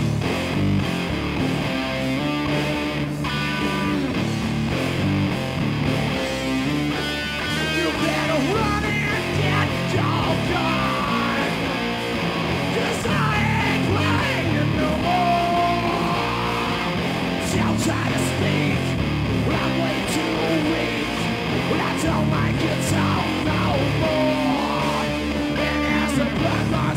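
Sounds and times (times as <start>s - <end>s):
bass notes: 0.0s - 26.9s
drums: 0.0s - 26.9s
electric guitar: 0.0s - 26.9s.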